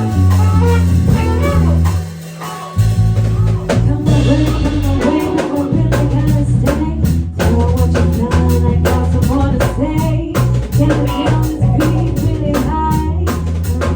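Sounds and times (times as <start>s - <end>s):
band playing: 0.0s - 13.9s
drum kit: 0.0s - 13.9s
sustained bass notes: 0.0s - 13.9s.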